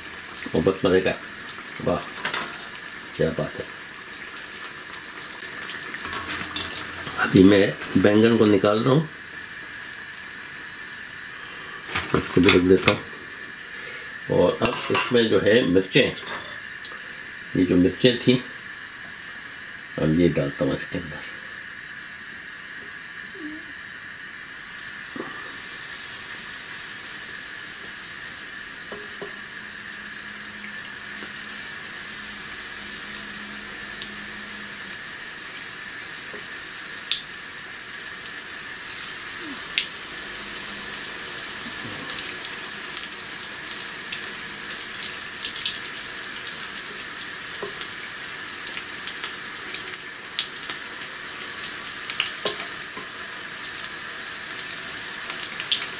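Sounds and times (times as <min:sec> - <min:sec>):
food sizzling in hot oil: 0:00.0 - 0:55.9.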